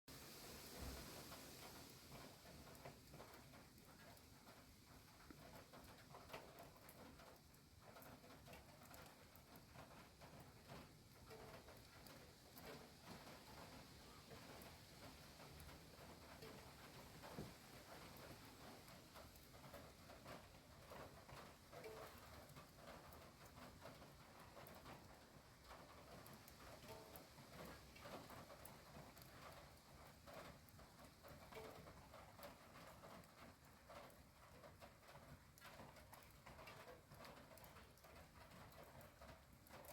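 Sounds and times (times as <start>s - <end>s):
raindrops pattering: 0.1s - 39.9s
soft background hiss: 0.1s - 39.9s.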